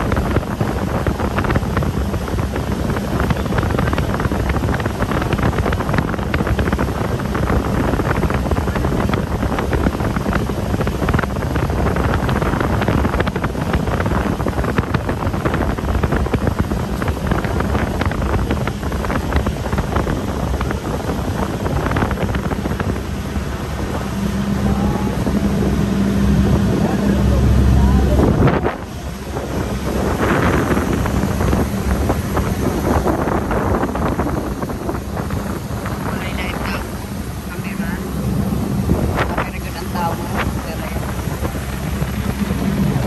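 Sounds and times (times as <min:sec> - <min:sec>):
low engine drone: 0:00.0 - 0:43.0
wind buffeting microphone: 0:00.0 - 0:43.0.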